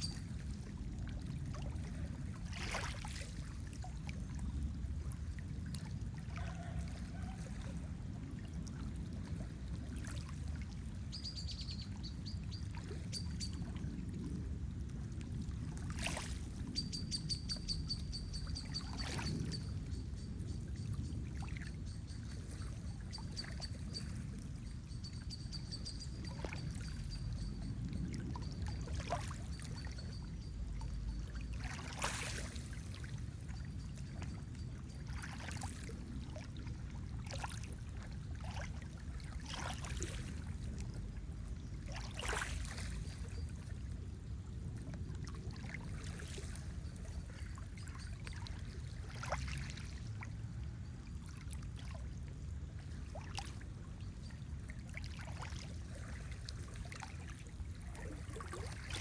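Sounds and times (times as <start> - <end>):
soft water splash: 0.0 - 16.8, 18.5 - 19.9, 26.2 - 44.0, 44.8 - 50.4, 51.2 - 52.2, 52.8 - 59.0
lake water lapping and gurgling: 0.0 - 59.0.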